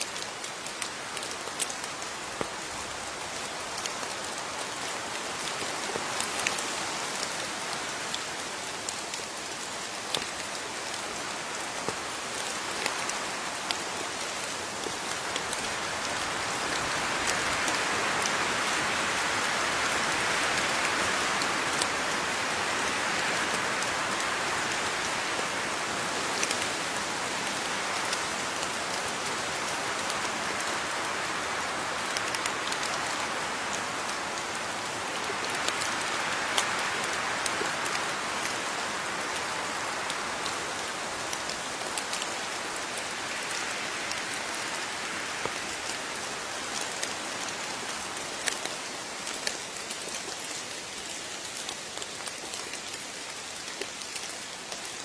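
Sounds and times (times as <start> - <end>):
rain falling: 0.0 - 55.0
raindrops ticking on a surface: 0.0 - 55.0.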